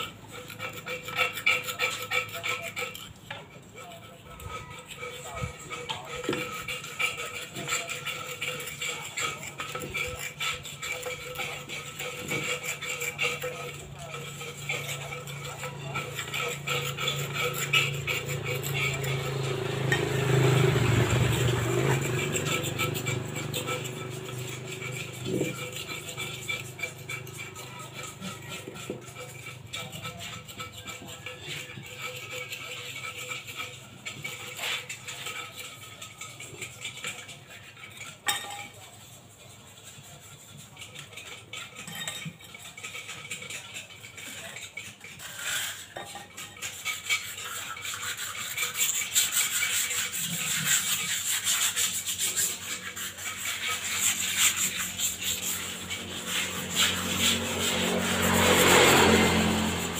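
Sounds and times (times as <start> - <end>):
scrubbing on cement pots: 0.0 - 59.9.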